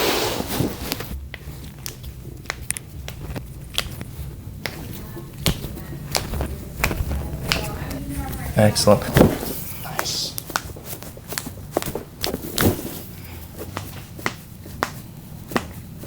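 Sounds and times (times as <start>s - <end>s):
low background music: 0.2s - 16.0s.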